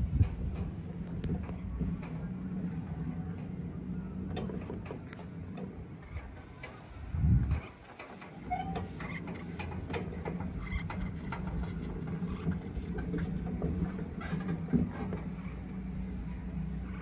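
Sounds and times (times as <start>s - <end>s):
light clicks and rattles: 0.0s - 17.0s
ride machinery humming: 0.0s - 17.0s.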